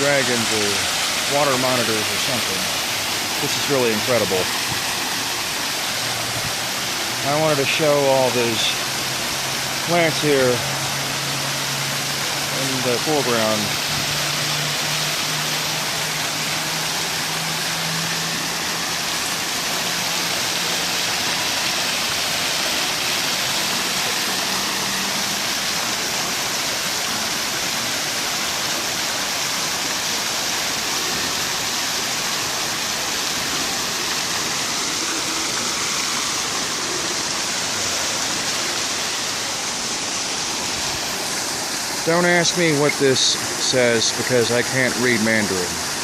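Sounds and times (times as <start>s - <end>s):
fountain water splashing: 0.0s - 46.0s.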